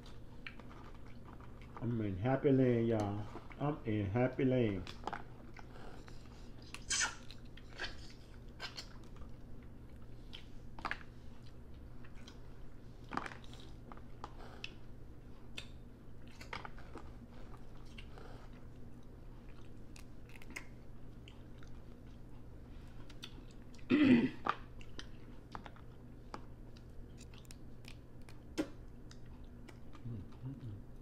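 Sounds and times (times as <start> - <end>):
chewing and smacking: 0.0 - 3.9, 4.5 - 31.0
faint steady hum: 0.0 - 31.0.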